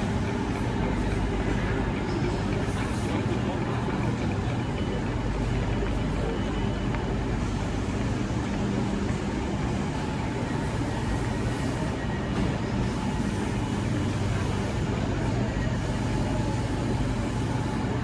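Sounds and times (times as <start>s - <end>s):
train running rumble and hiss: 0.0s - 18.0s.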